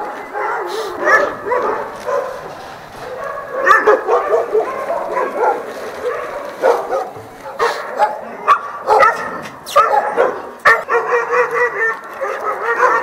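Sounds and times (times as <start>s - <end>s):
dogs barking and yelping: 0.0s - 13.0s.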